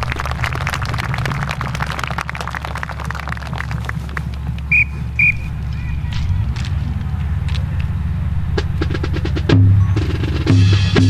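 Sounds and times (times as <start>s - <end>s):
marching drums playing: 0.0s - 11.0s.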